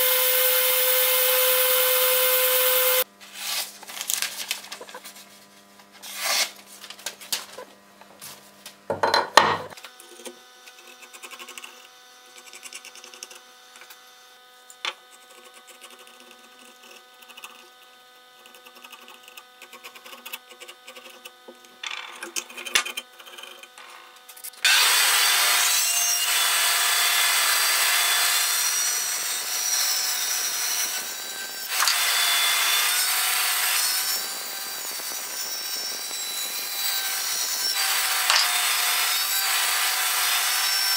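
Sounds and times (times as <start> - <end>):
band saw cutting wood: 0.0 - 3.1, 9.8 - 40.9.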